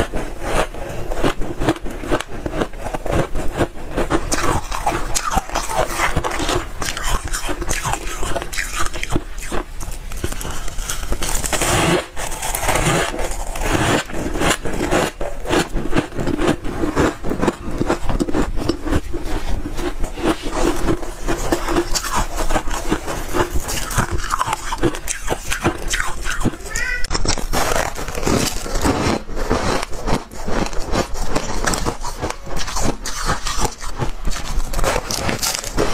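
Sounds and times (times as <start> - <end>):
frost crunching as chewed: 0.1 - 35.9.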